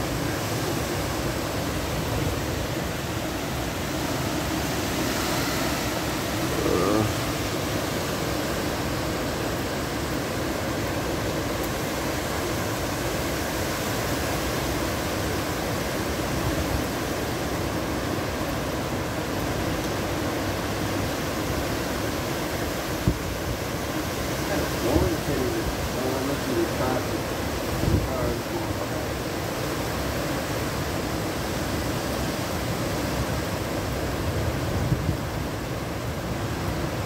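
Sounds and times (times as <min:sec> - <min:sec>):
hurricane wind and rain: 0:00.0 - 0:37.0.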